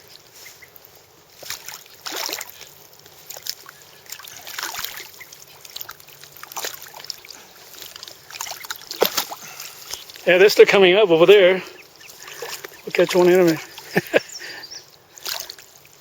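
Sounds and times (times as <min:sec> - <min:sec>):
river water splashing: 0:00.0 - 0:16.0.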